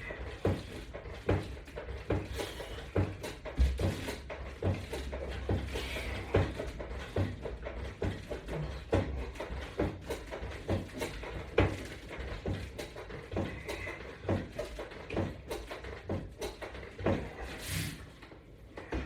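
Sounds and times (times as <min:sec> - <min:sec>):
light knocks and clacks: 0:00.0 - 0:17.6.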